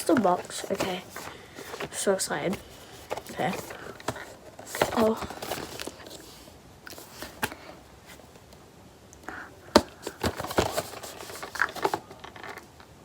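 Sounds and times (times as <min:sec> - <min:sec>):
cardboard rustling: 0:00.0 - 0:08.3, 0:09.6 - 0:12.6.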